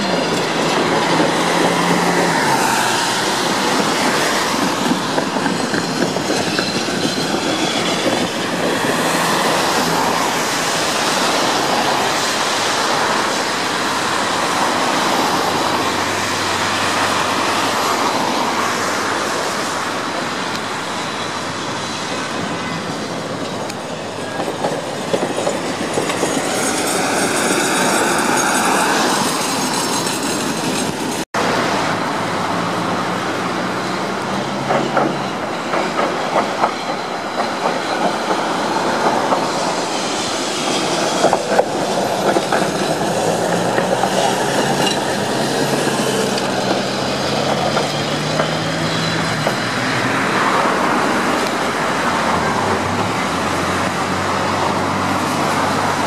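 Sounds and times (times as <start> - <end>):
traffic hissing on wet road: 0.0 - 56.0
tram wheels clacking on rails: 0.0 - 56.0.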